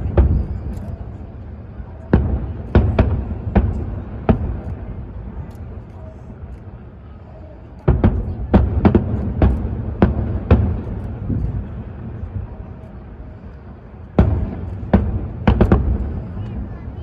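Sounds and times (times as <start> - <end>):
fireworks bangs: 0.0 - 6.5, 7.8 - 13.3, 13.9 - 17.0.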